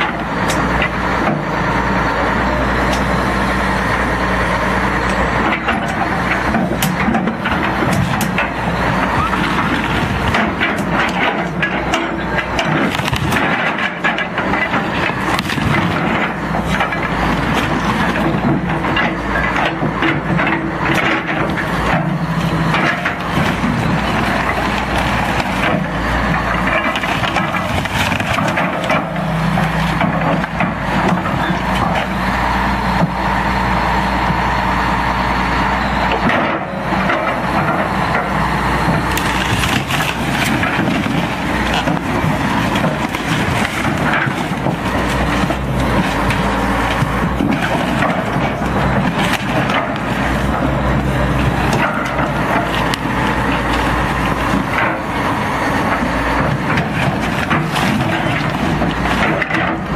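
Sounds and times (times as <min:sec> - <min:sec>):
excavator engine running: 0:00.0 - 0:59.9
wood cracking and splintering: 0:05.0 - 0:34.6, 0:36.0 - 0:59.9.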